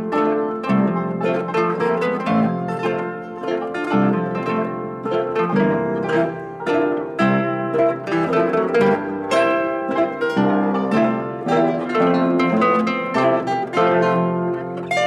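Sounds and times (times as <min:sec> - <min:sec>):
plucked notes over chords: 0:00.0 - 0:15.0.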